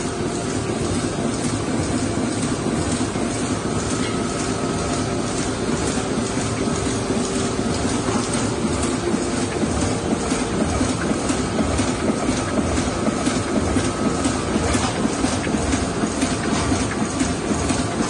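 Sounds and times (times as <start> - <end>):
printing press clattering: 0.0 - 18.0.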